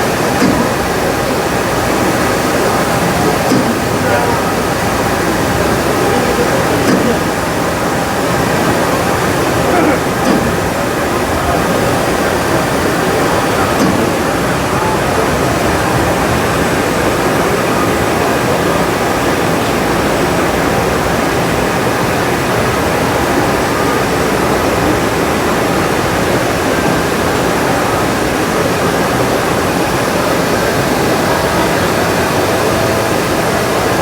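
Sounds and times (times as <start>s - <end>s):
busy exhibition hall din: 0.0s - 34.0s.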